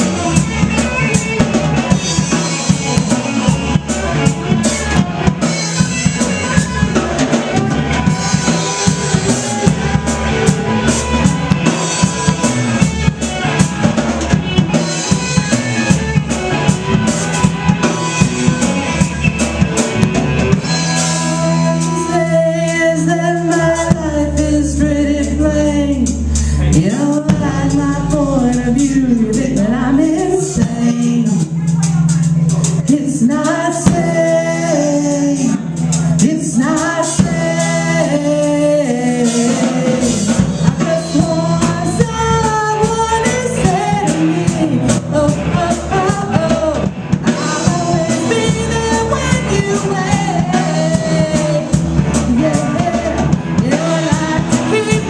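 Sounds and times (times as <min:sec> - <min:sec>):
band playing: 0:00.0 - 0:55.0
person singing: 0:00.0 - 0:55.0.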